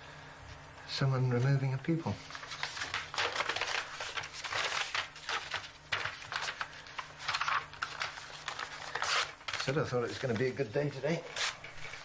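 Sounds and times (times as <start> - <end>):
paper rustling: 2.2 - 12.0.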